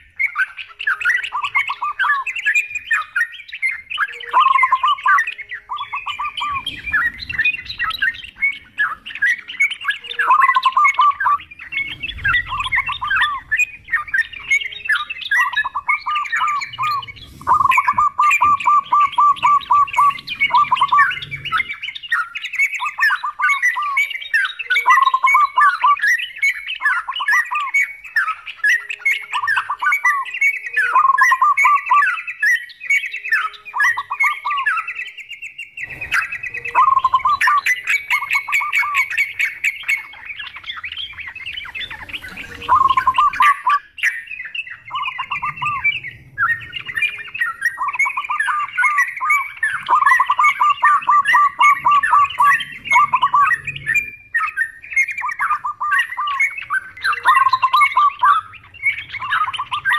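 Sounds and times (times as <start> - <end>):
birds chattering: 0.0 - 59.9
dove calling: 0.0 - 59.9.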